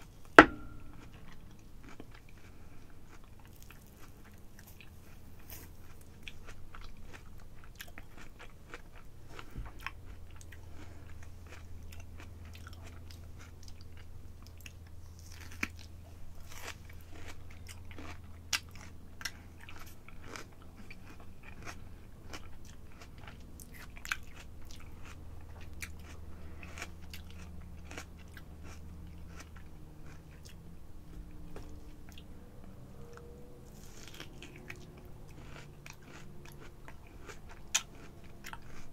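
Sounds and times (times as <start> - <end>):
chewing and biting fruit: 0.0 - 38.9
low steady hum: 0.0 - 38.9.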